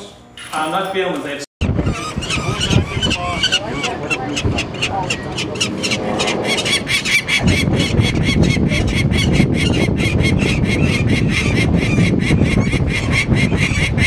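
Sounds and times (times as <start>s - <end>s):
wind on microphone: 1.6s - 14.0s.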